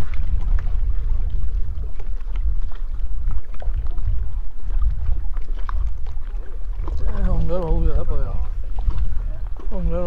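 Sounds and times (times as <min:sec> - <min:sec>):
water slapping boat hulls: 0:00.0 - 0:10.0
wind buffeting microphone: 0:00.0 - 0:10.0.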